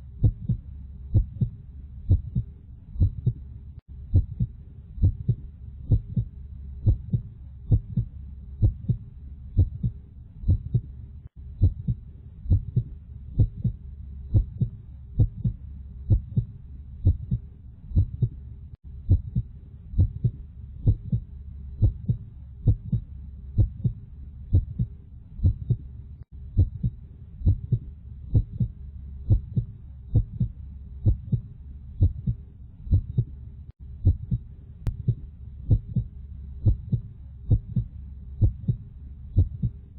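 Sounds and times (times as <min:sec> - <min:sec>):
heartbeat thumps: 0:00.0 - 0:39.8
steady low hum: 0:00.0 - 0:39.9.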